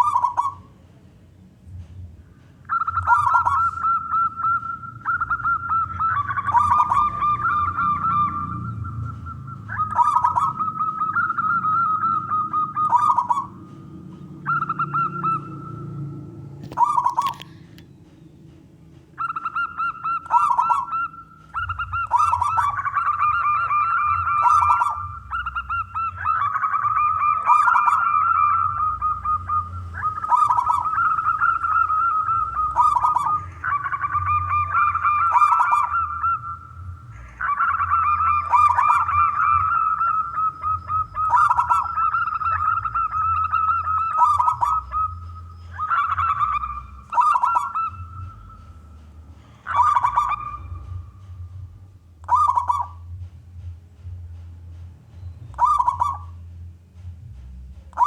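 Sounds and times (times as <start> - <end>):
zebra doves cooing: 0.0 - 0.8, 2.2 - 18.0, 19.0 - 53.3, 55.4 - 56.4
faint steady hum: 0.0 - 58.0.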